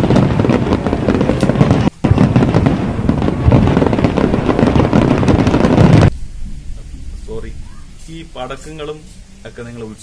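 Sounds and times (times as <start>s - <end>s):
firecrackers popping: 0.0s - 10.0s.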